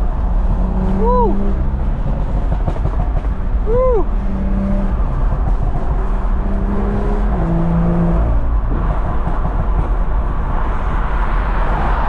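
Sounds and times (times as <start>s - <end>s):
car engine drone: 0.0s - 12.0s
road and wind noise: 0.0s - 12.0s.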